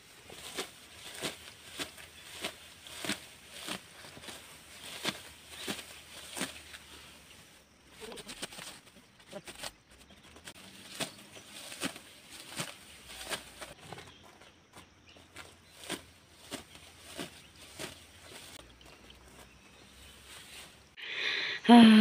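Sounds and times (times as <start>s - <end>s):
sickle cutting rice stalks: 0.0s - 13.8s, 15.7s - 18.7s, 19.4s - 20.8s
rustling of cut stalks: 0.0s - 21.0s.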